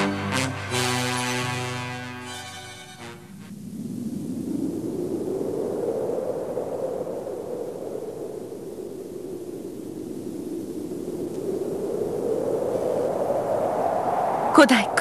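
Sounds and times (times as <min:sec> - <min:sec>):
wind rushing: 0:00.0 - 0:15.0.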